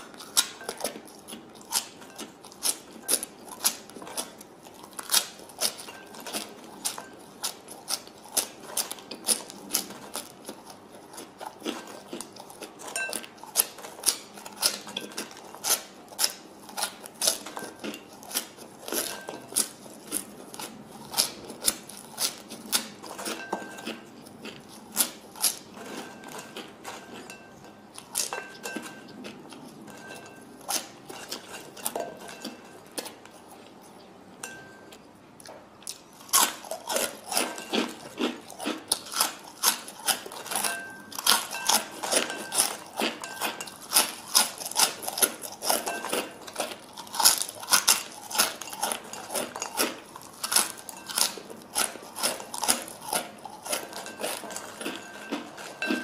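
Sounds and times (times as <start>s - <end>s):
person chewing fries: 0.0s - 56.0s.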